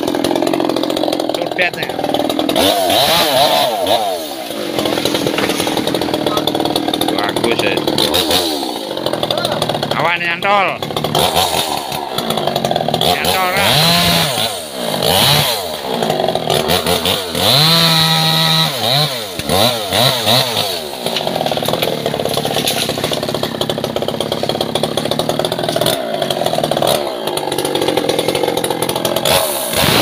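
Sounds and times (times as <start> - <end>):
chainsaw revving: 0.0 - 30.0.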